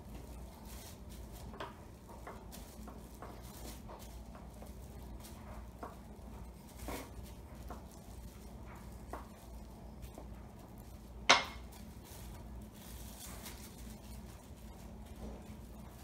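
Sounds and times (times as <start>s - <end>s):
rolling pin taps and rustles: 0.0s - 16.0s.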